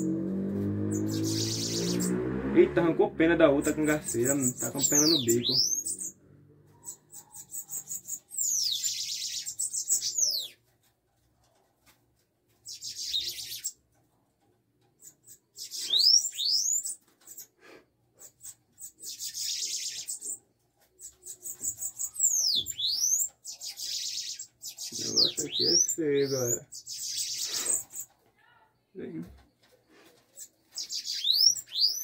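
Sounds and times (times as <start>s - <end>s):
birds buzzy chirping trills: 0.0s - 10.8s, 12.4s - 32.0s.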